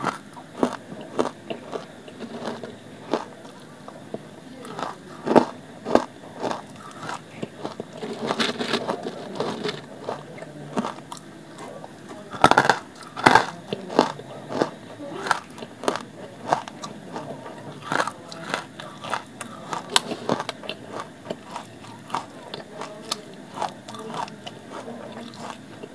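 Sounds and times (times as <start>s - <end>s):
crunching chewing of clay: 0.0s - 25.9s.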